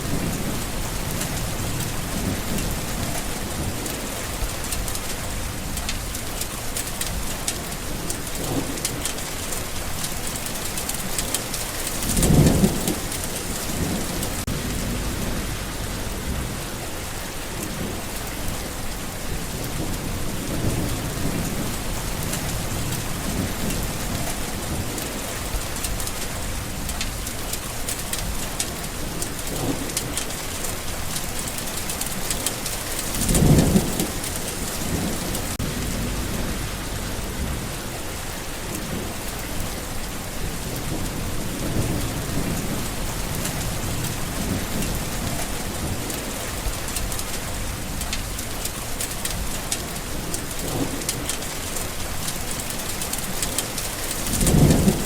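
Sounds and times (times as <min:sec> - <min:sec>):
close raindrops ticking: 0:00.0 - 0:55.0
low rumble of thunder: 0:00.0 - 0:55.0
steady rain falling: 0:00.0 - 0:55.0.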